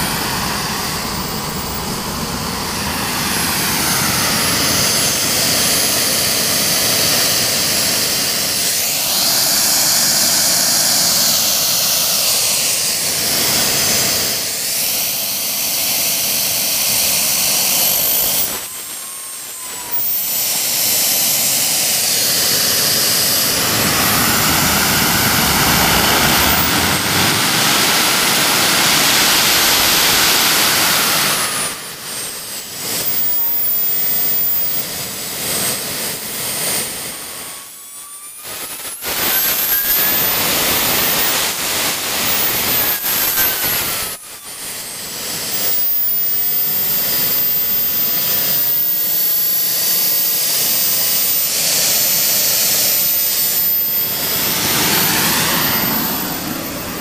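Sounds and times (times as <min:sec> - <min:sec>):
model jet turbine roaring and whining: 0:00.0 - 0:57.0.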